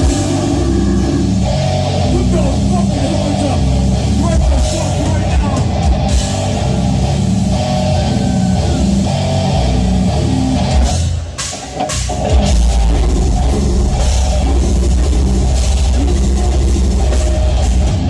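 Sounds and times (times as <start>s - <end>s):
distorted electric guitars: 0.0s - 18.0s
drum kit: 0.0s - 18.0s
heavy metal band playing: 0.0s - 18.0s.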